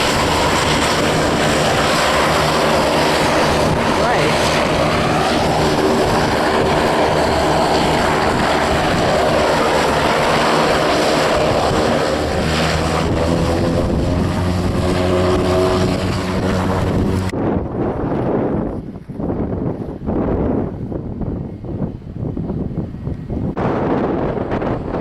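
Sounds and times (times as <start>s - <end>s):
airliner engines droning: 0.0s - 19.0s, 19.9s - 25.0s.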